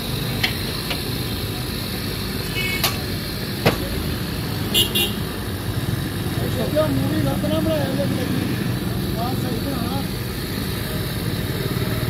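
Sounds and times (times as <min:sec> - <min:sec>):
frying in hot oil sizzling: 0:00.0 - 0:12.0.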